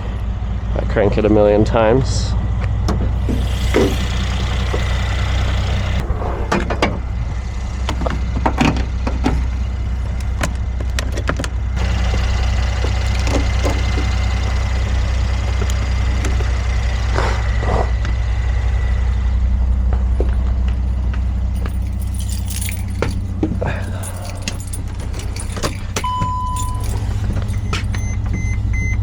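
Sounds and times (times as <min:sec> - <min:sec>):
car engine running: 0:01.7 - 0:29.0.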